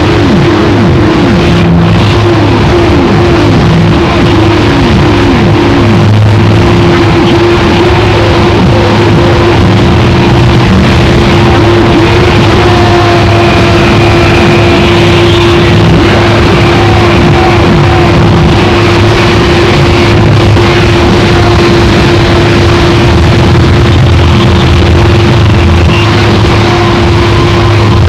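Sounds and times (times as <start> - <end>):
distorted noise music: 0.0 - 28.0
low rumble: 0.0 - 28.0
steady droning tone: 0.0 - 28.0.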